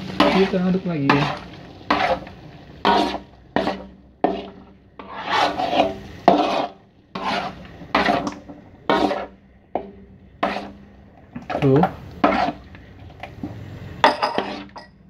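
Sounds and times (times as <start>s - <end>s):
metal utensil scraping a wok: 0.0s - 15.0s.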